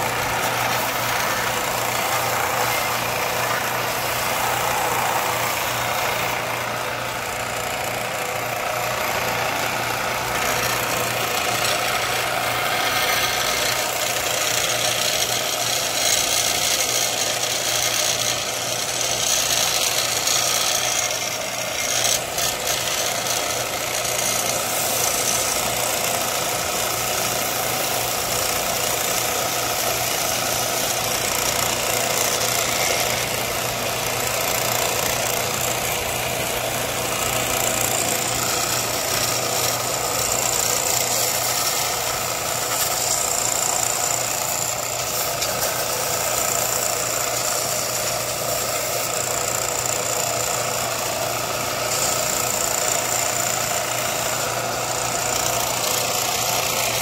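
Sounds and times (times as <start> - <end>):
electric machine motor hum: 0.0 - 57.0.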